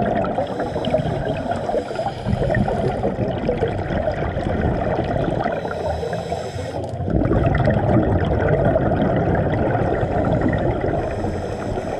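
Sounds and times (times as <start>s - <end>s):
exhaled bubbles gurgling: 0.0s - 11.9s
underwater noise: 0.0s - 11.9s.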